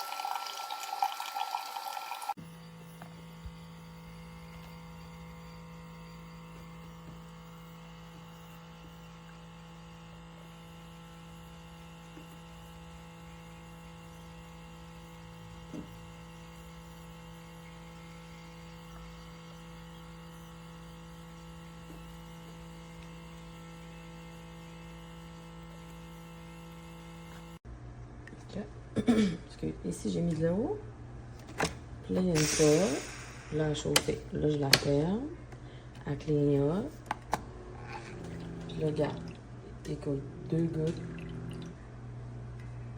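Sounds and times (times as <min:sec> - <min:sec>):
coffee maker humming: 0:00.0 - 0:27.6, 0:35.5 - 0:42.9.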